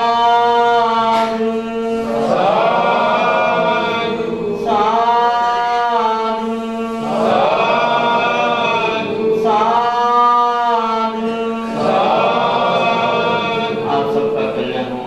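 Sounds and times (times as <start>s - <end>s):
monk chanting into a microphone: 0.0s - 15.0s.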